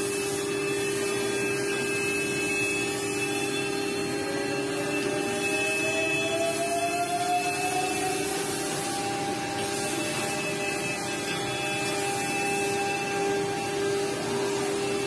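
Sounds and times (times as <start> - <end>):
cutter hissing through wood: 0.0 - 15.0.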